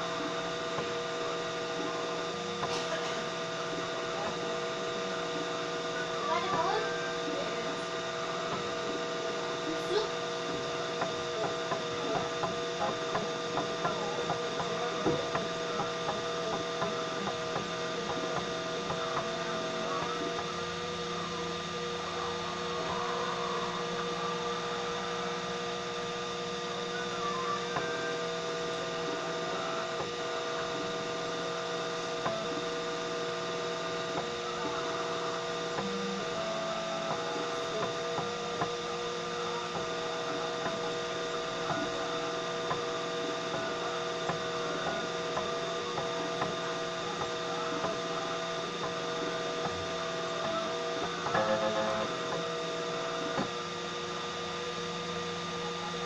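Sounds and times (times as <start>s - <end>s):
stepper motors humming: 0.0s - 56.0s.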